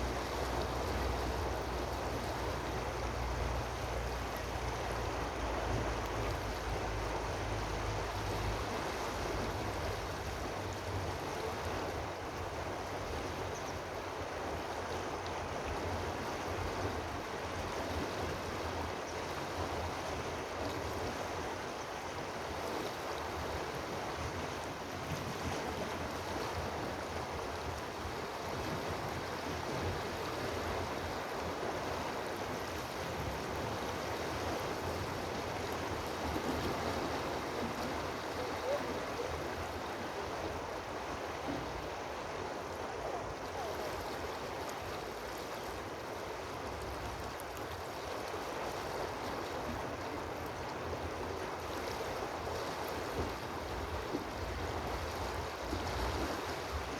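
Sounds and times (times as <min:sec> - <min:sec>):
running water rushing: 0:00.0 - 0:56.9.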